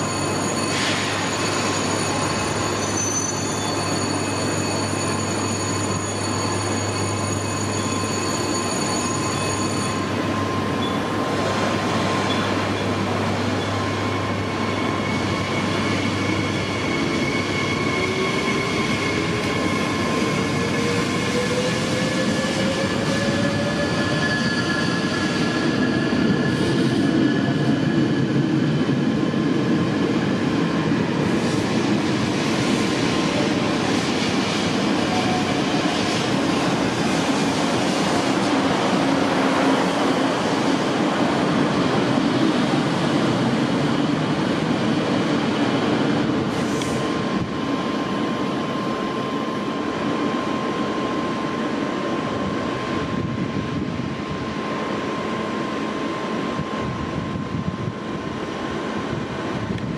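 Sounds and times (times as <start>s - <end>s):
electric train whine: 0.0s - 59.9s
train wheels on rails: 0.0s - 59.9s.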